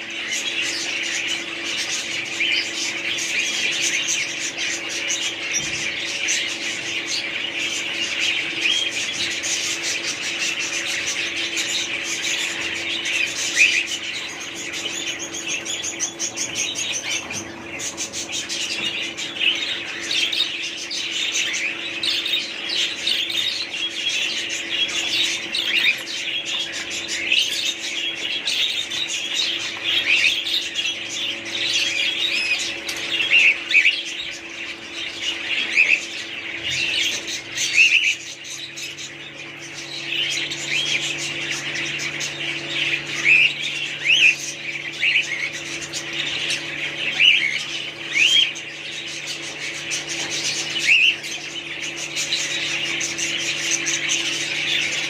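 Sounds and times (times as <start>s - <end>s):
low electrical hum: 0.0s - 55.0s
small birds chirping and squawking: 0.0s - 55.0s.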